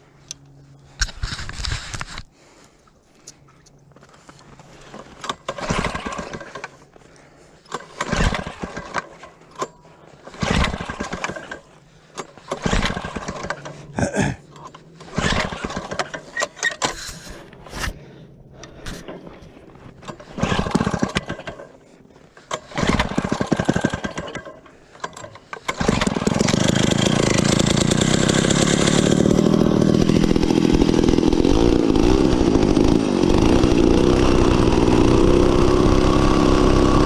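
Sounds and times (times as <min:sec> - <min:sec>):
ice auger engine revving: 0:04.8 - 0:18.0, 0:18.6 - 0:37.0.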